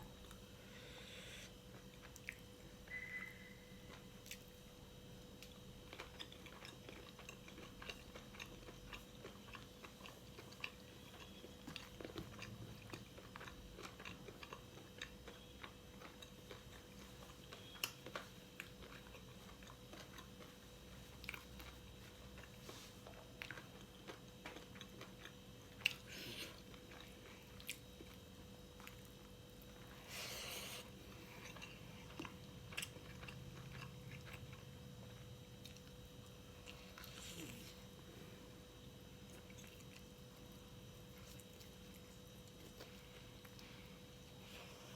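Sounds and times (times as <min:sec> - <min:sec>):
faint steady hum: 0:00.0 - 0:44.9
person chewing: 0:00.1 - 0:02.7, 0:03.8 - 0:04.6, 0:05.3 - 0:38.6, 0:39.2 - 0:44.9.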